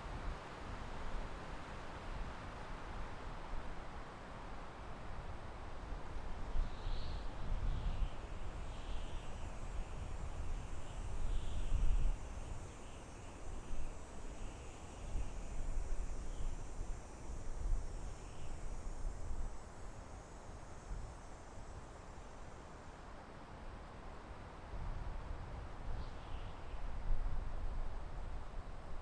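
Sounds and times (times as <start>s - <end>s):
wind blowing through forest: 0.0s - 29.0s.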